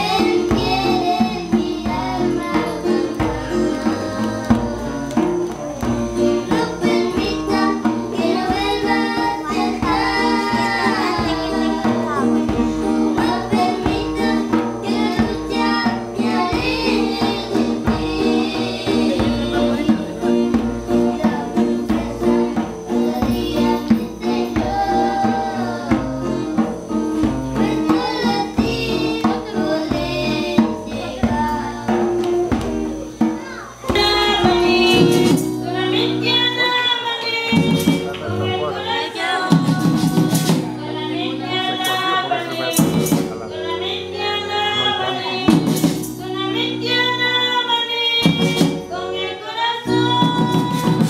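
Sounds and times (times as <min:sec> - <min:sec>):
acoustic guitar: 0:00.0 - 0:51.0
children singing into microphones: 0:00.0 - 0:51.0
jingling percussion: 0:00.0 - 0:51.0.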